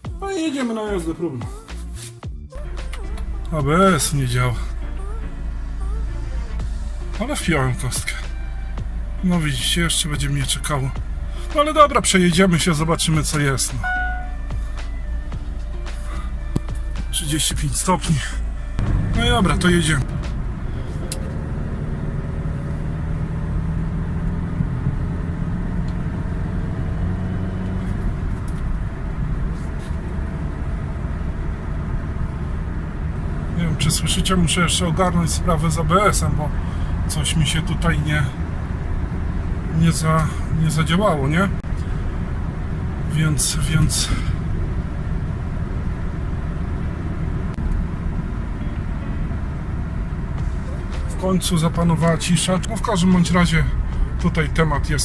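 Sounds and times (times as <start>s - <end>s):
car engine and tyre noise: 0.0s - 55.0s
low hum: 1.4s - 55.0s.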